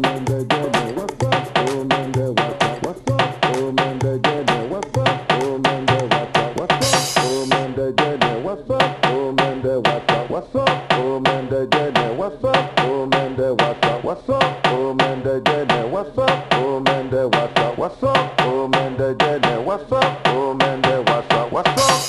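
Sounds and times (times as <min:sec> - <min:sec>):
music with drum beat and melody: 0:00.0 - 0:22.0.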